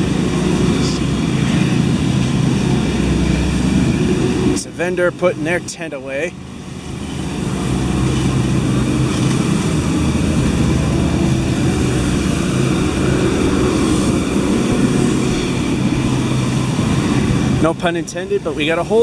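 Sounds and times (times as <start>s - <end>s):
engine drone with low hum: 0.0s - 19.0s.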